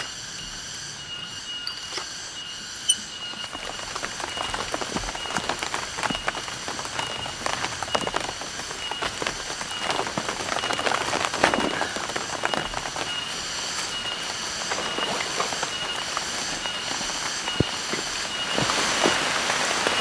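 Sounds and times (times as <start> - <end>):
high pulsing chirr: 0.0 - 18.6
rain dripping in forest: 0.0 - 20.0.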